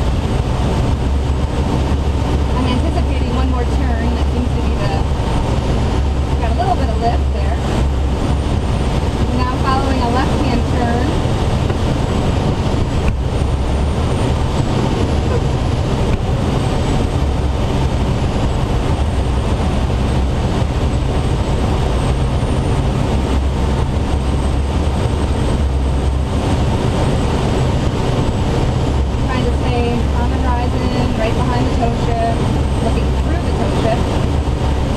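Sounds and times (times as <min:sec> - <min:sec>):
low drone: 0:00.0 - 0:34.9
rushing airflow: 0:00.0 - 0:34.9.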